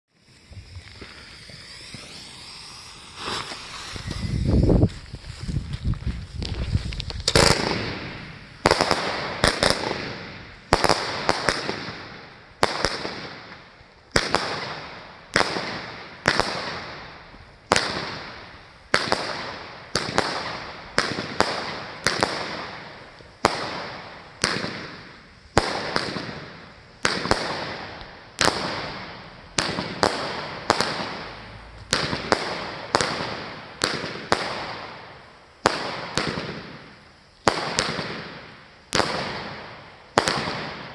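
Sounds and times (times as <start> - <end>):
firework bangs with crackle: 0.1 - 40.9.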